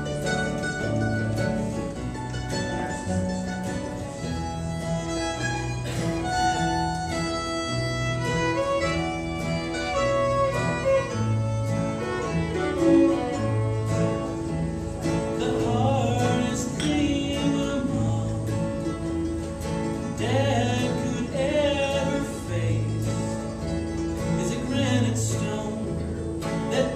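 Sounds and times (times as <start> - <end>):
fiddle melody: 0.0 - 26.9
mandolin: 0.0 - 26.9
strummed acoustic guitar: 0.0 - 26.9.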